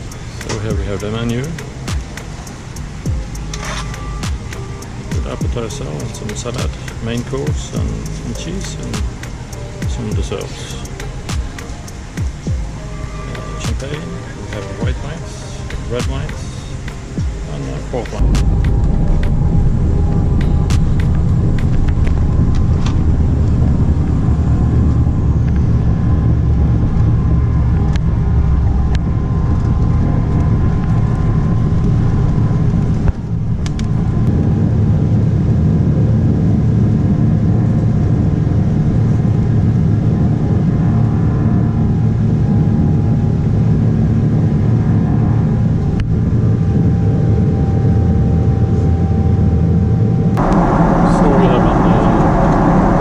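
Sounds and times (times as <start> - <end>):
jet engine roar in cabin: 0.0 - 53.0.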